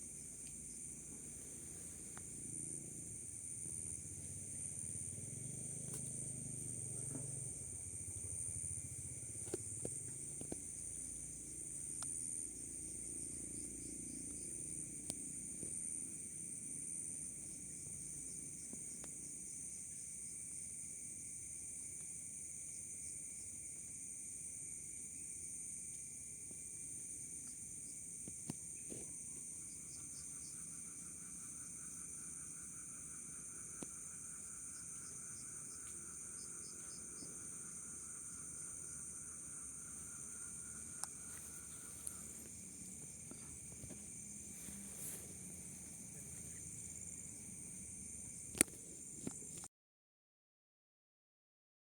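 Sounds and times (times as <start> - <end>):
fast pulsing insect trill: 0.0 - 49.5
low steady insect tone: 0.0 - 49.7.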